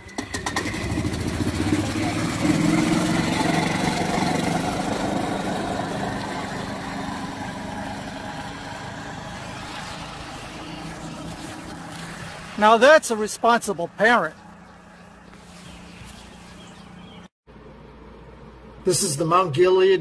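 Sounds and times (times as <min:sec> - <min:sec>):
golf cart engine running: 0:00.0 - 0:17.3.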